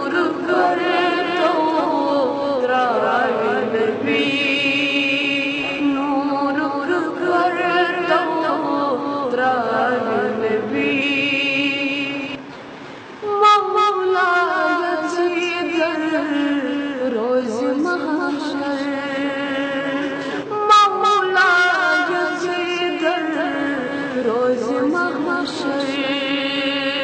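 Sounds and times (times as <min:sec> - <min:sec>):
boy singing: 0:00.0 - 0:12.4, 0:13.2 - 0:27.0.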